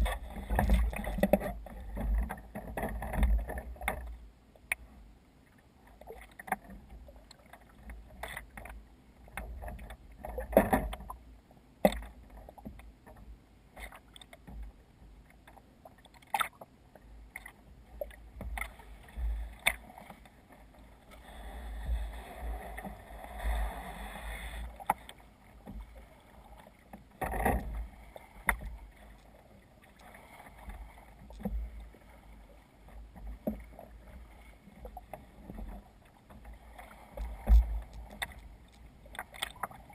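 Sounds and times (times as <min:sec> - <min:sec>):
water splashing against kayak hull: 0:00.0 - 0:39.9.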